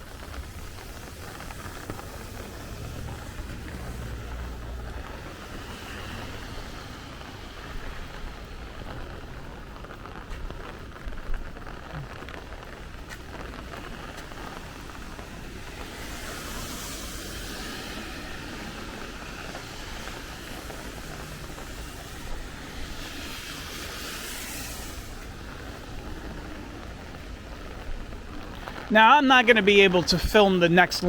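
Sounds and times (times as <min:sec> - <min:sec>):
low wind rumble: 0:00.0 - 0:31.0
rain hiss surges: 0:00.0 - 0:31.0
steady rain: 0:00.0 - 0:31.0.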